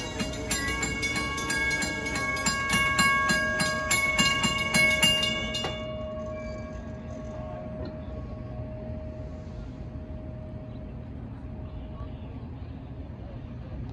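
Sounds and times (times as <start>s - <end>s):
railroad crossing bell ringing: 0.0s - 13.4s.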